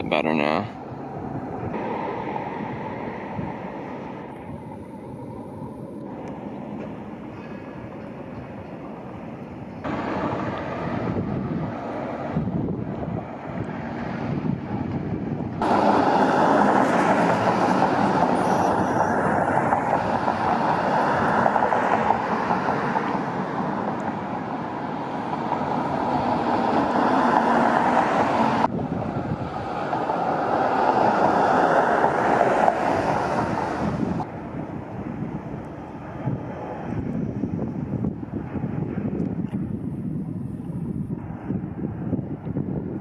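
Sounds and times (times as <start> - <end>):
vehicle rushing noise: 0.0 - 43.0.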